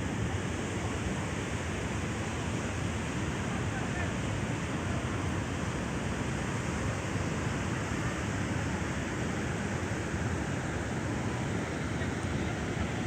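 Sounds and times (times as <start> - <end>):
sea surf washing ashore: 0.0 - 13.0.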